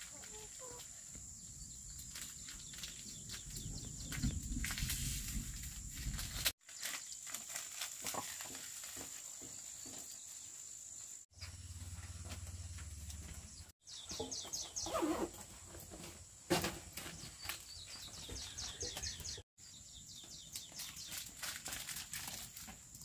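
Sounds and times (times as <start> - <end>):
rural ambience: 0.0 - 23.0.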